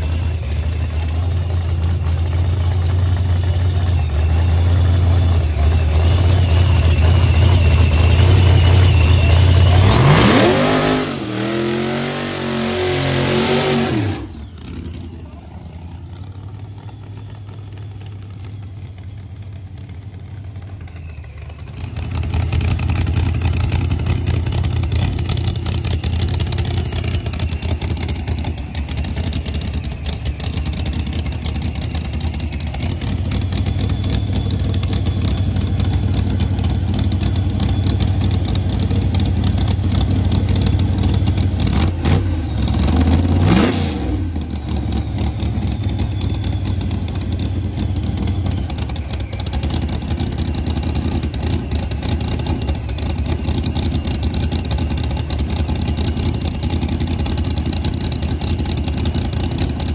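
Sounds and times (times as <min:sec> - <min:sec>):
drag racing car engine rumbling: 0:00.0 - 0:59.9.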